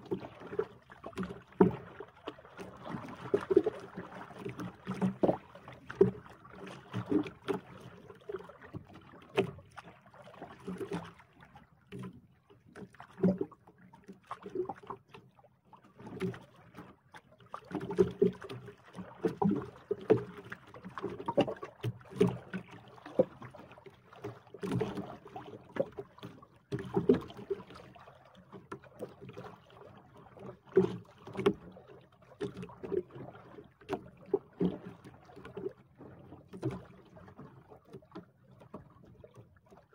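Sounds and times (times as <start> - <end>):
water slapping against boat hull: 0.0 - 39.9.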